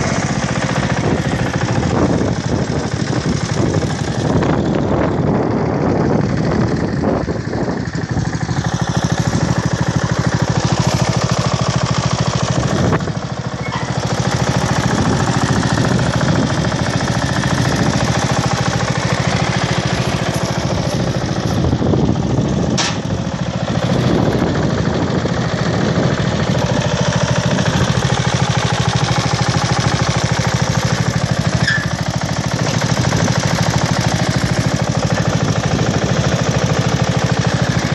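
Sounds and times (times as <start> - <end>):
ride-on mower engine running: 0.0 - 37.9.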